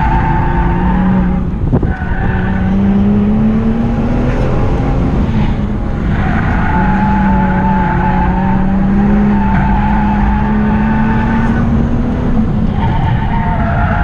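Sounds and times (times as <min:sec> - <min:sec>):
car engine pulling hard: 0:00.0 - 0:14.0.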